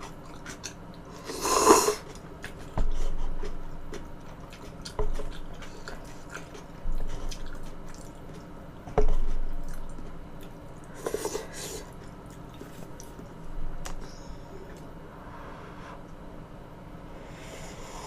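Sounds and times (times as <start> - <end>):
wet chewing of food: 0.0 - 14.9.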